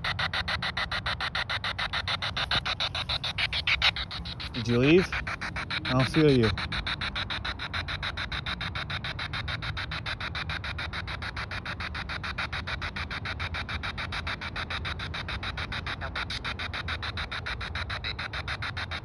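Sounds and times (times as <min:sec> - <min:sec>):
pulsing radio static: 0:00.0 - 0:18.5.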